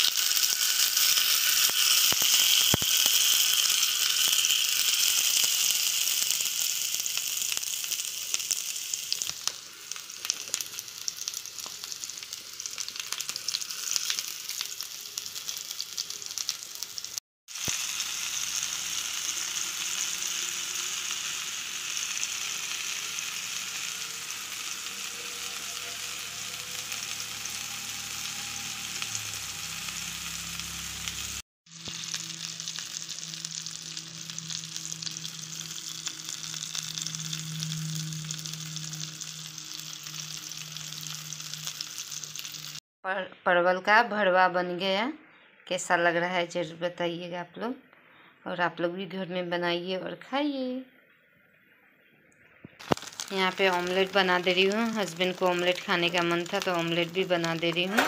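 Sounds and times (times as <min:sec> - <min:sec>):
vegetables sizzling in frying pan: 0:00.0 - 0:42.8, 0:52.8 - 0:58.0.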